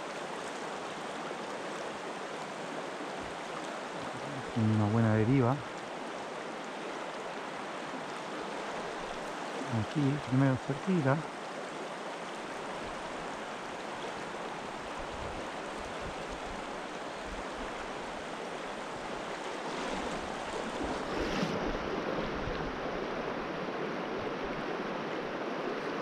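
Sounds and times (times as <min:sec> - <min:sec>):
river water rushing over stones: 0:00.0 - 0:26.0.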